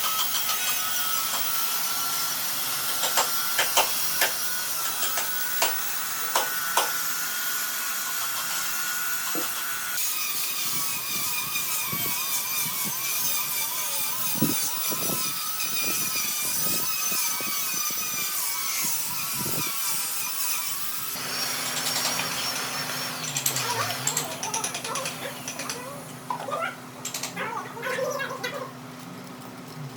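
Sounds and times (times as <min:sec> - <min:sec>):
power tool whining on wood: 0:00.0 - 0:26.2.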